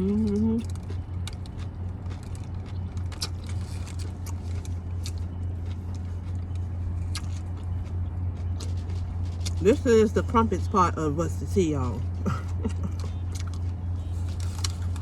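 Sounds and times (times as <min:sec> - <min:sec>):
chewing a sandwich: 0:00.0 - 0:10.7, 0:11.8 - 0:15.0
steady low hum: 0:00.0 - 0:15.0.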